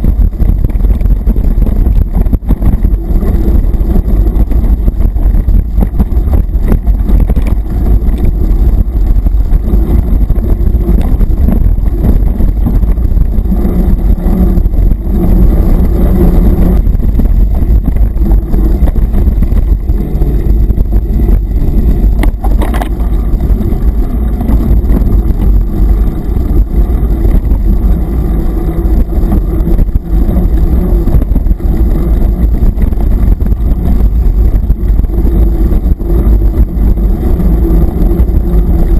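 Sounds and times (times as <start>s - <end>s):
bike jolting and rattling: 0.0s - 38.9s
wind buffeting on microphone: 0.0s - 38.9s.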